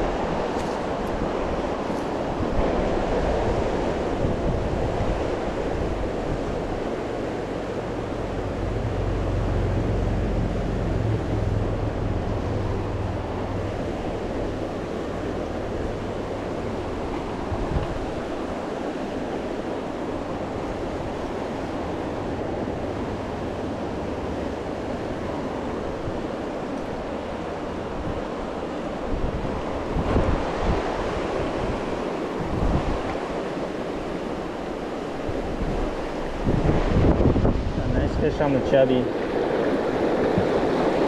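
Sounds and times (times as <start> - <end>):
river water rushing over rocks: 0.0 - 41.0
wind rumble on microphone: 0.0 - 41.0.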